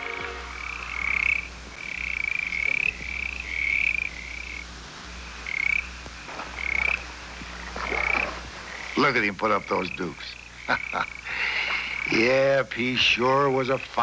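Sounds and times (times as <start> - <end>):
frogs trilling: 0.0 - 14.0.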